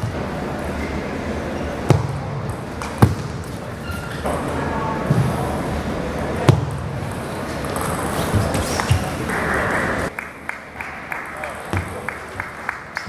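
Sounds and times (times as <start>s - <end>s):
hall background noise: 0.0s - 13.0s.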